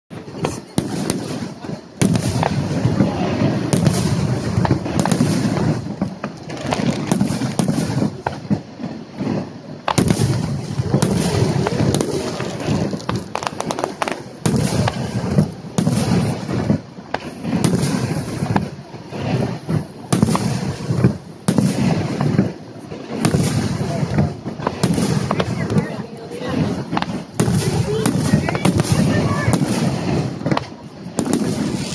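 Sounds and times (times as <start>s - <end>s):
fireworks bursting: 0.1s - 31.9s
fireworks crackle: 0.1s - 31.9s
people's voices: 0.1s - 31.9s.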